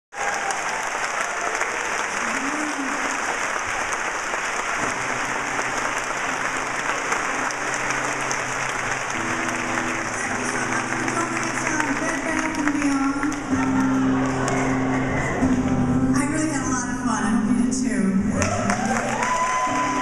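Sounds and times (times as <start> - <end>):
audience applauding: 0.1 - 15.9, 18.3 - 20.0.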